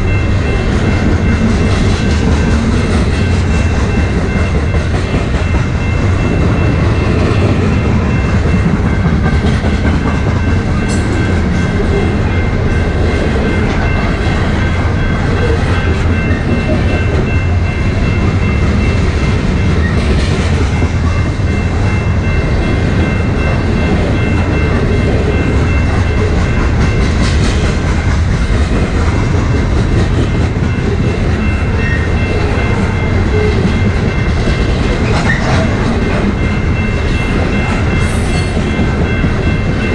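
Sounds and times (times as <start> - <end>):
train cars rumbling: 0.0 - 39.9.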